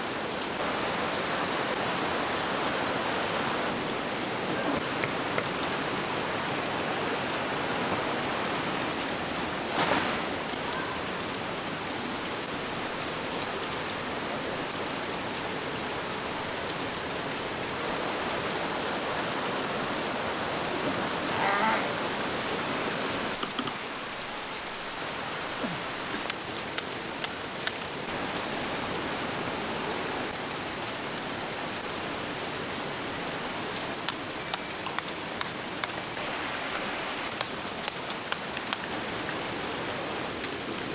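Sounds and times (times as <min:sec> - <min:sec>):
rushing mountain stream: 0:00.0 - 0:40.9.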